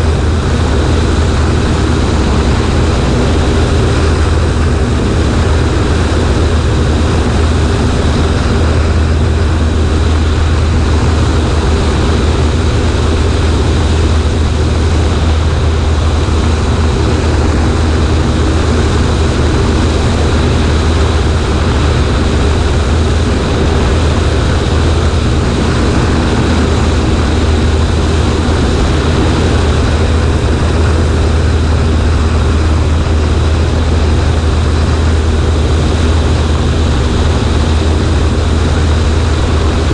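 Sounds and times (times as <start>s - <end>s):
propeller plane engine drone: 0.0s - 39.9s
rushing air: 0.0s - 39.9s.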